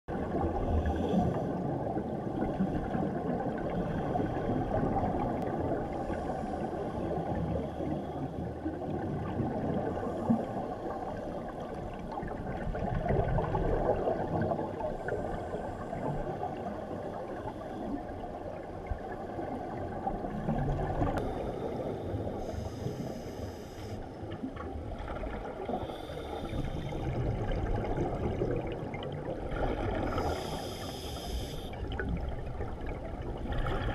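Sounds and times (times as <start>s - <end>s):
underwater regulator bubbles gurgling: 0.1s - 23.4s, 24.2s - 33.9s.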